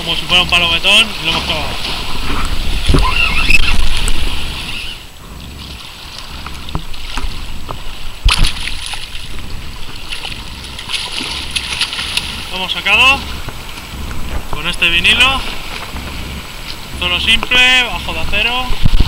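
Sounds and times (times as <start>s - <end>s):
waves washing on shore: 0.0s - 19.0s
wind buffeting microphone: 0.0s - 19.0s.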